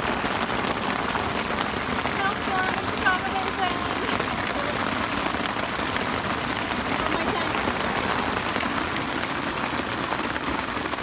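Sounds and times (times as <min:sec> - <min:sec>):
hail pattering on a tent: 0:00.0 - 0:11.0.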